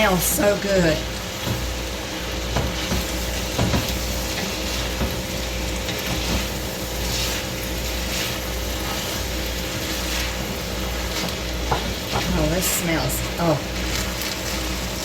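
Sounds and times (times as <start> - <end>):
air conditioner hum: 0.0 - 15.0
rice sizzling in oil: 0.0 - 15.0.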